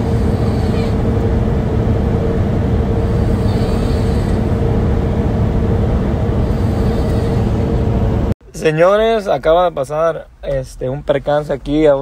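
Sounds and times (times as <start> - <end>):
faint steady hum: 0.0 - 12.0
road and engine rumble in cab: 0.0 - 12.0.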